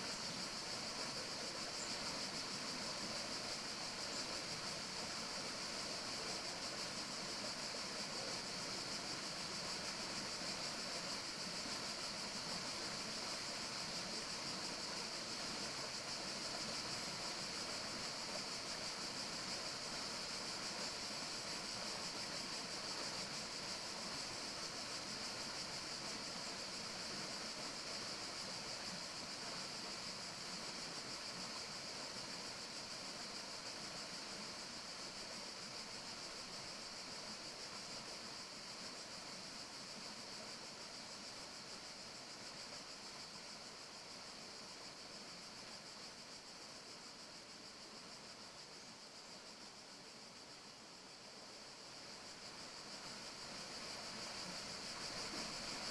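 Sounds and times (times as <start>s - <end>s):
steady forest hiss: 0.0s - 55.9s.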